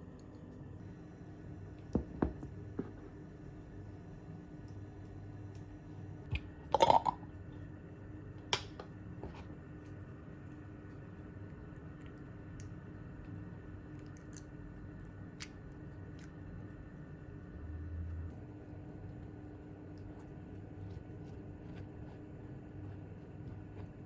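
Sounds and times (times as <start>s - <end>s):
faint hum: 0.0s - 24.0s.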